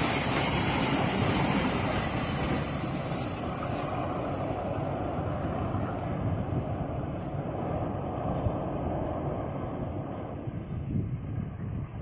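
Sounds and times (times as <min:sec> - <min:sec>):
train coaches rumbling over rails: 0:00.0 - 0:12.0.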